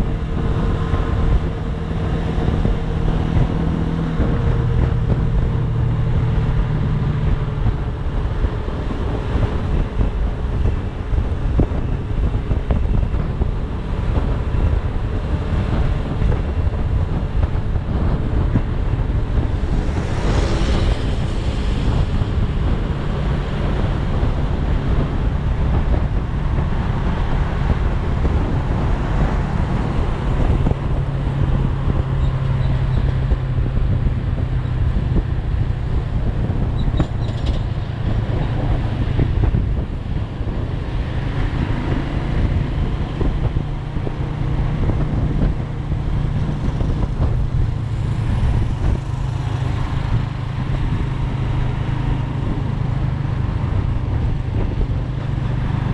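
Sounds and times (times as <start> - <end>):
motorcycle engine cruising: 0.0 - 55.9
rush of noise: 0.0 - 55.9
wind buffeting microphone: 0.0 - 55.9.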